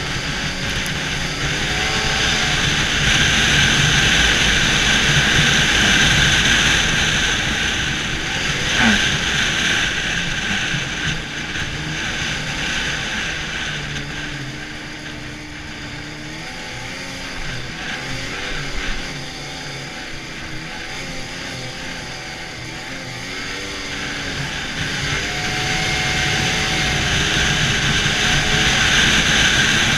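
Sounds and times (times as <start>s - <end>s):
snowmobile engine drone: 0.0s - 29.9s.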